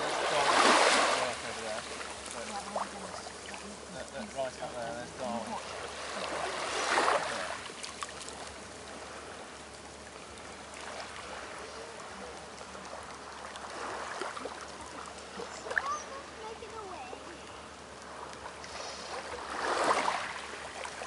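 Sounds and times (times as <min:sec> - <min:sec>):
surf washing over sand: 0:00.0 - 0:21.0.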